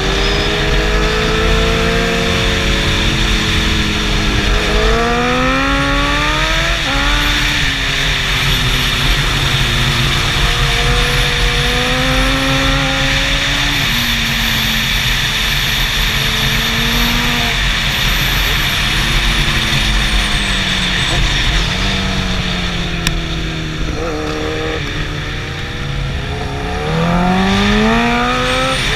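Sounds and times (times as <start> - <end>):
motorcycle engine revving through gears: 0.0 - 28.9
wind noise: 0.0 - 28.9.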